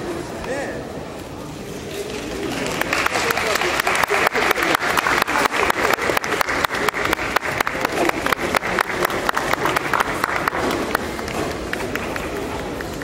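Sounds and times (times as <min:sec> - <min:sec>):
spectators applauding: 0:02.2 - 0:13.0.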